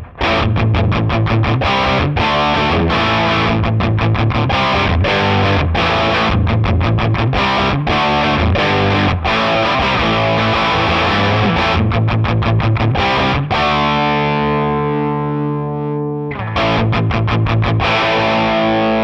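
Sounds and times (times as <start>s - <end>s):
distorted electric guitar riff: 0.0s - 19.0s.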